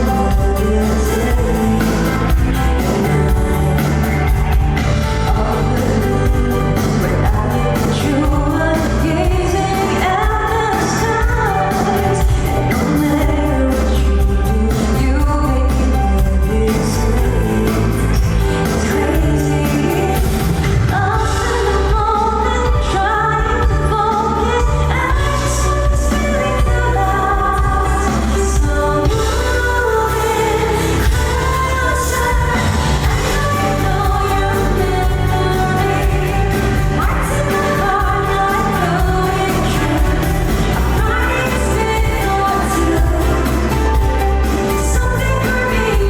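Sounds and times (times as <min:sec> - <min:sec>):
amplified pop band: 0:00.0 - 0:46.0
woman singing lead: 0:00.0 - 0:46.0.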